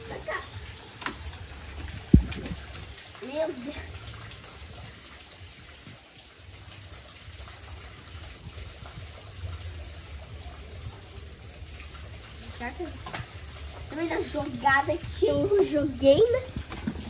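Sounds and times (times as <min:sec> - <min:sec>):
trickle of running water: 0:00.0 - 0:17.0.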